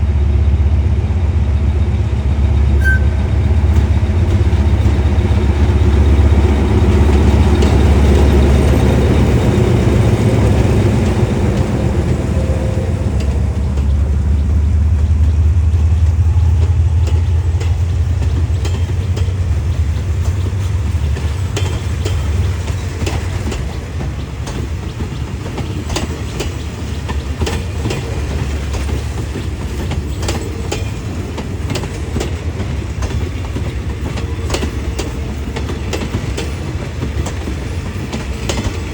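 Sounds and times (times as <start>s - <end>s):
train engine rumble: 0.0s - 38.9s
train wheels clicking over rail joints: 0.2s - 38.9s.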